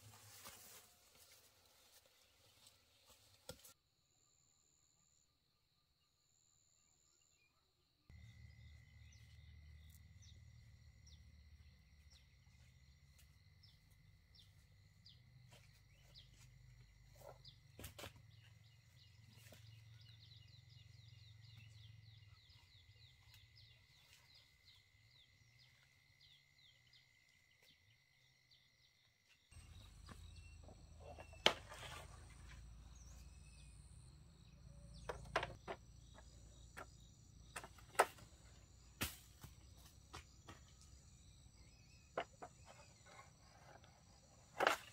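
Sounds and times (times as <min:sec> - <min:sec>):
insects chirring: 0:08.1 - 0:44.9.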